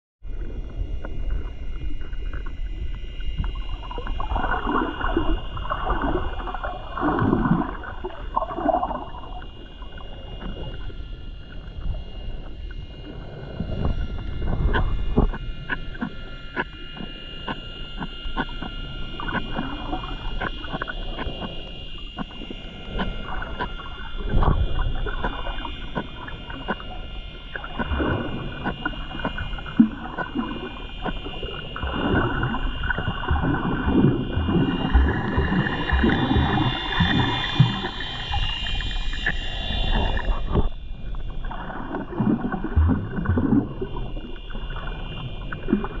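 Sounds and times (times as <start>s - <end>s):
faint high whine: 0.2s - 46.0s
water sloshing and bubbling: 0.2s - 46.0s.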